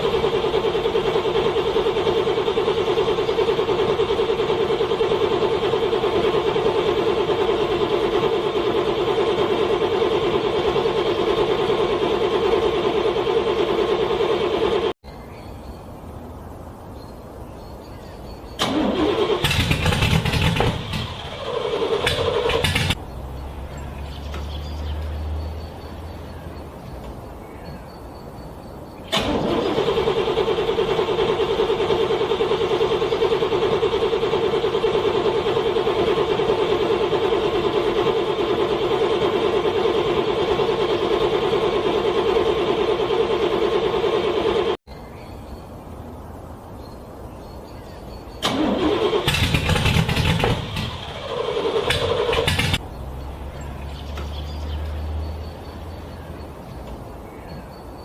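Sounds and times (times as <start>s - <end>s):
car starter cranking engine: 0.0s - 15.0s, 18.5s - 27.2s, 29.0s - 44.8s, 48.3s - 57.1s.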